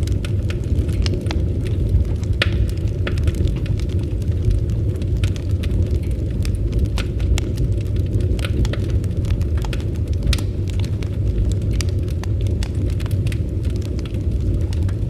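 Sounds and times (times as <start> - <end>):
flames rumbling: 0.0 - 15.0
wood crackling and popping: 0.0 - 15.0.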